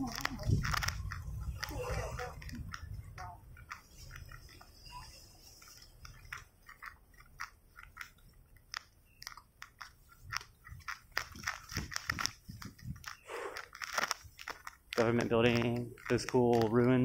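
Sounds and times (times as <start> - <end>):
footsteps clicking and crunching: 0.0 - 17.0.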